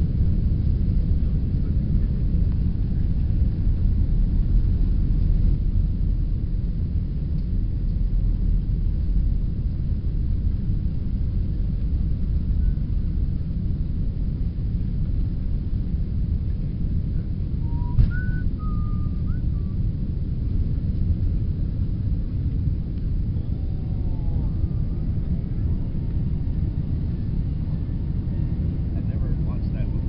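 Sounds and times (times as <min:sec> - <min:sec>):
jet engines and runway rumble: 0:00.0 - 0:30.0.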